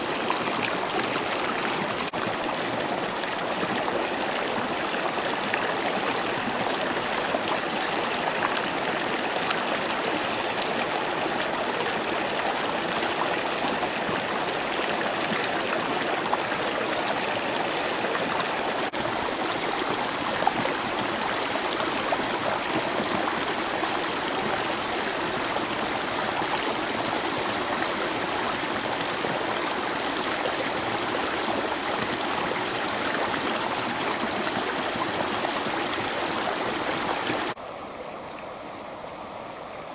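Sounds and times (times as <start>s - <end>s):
water rushing over rocks: 0.0s - 37.6s.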